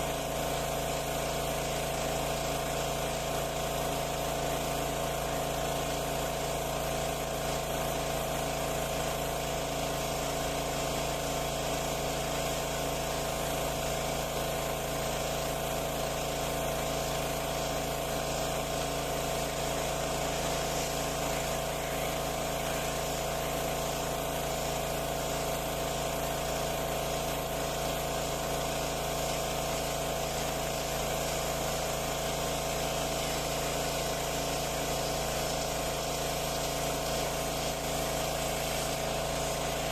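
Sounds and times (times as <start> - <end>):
hiss of water spray: 0.0 - 39.9
pressure washer running: 0.0 - 39.9.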